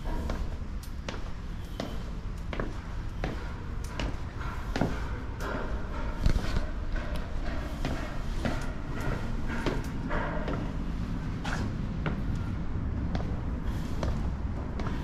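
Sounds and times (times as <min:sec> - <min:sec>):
footsteps going down stairs: 0:00.0 - 0:15.0
steady low rumble: 0:00.0 - 0:15.0.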